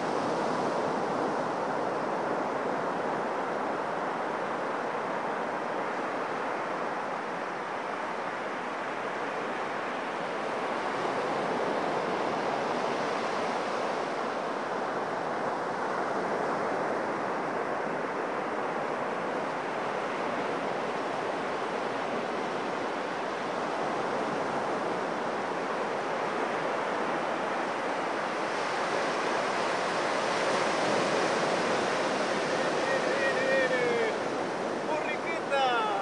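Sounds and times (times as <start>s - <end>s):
surf washing up a beach: 0.0s - 36.0s.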